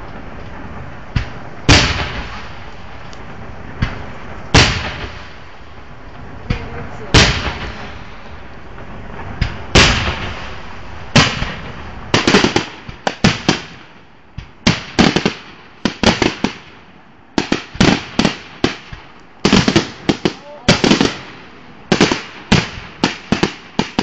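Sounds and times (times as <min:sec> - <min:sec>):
firework shells bursting with bangs: 0:00.0 - 0:24.0.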